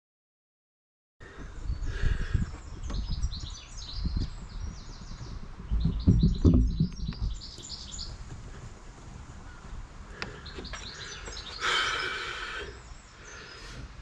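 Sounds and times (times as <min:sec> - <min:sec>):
low rumbling on microphone: 0:01.2 - 0:13.3
small birds chirping: 0:01.2 - 0:14.0.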